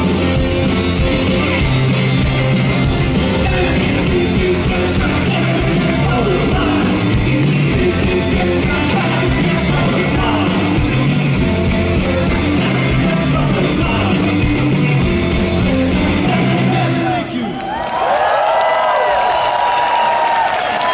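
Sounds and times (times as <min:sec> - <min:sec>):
live rock band playing: 0:00.0 - 0:17.4.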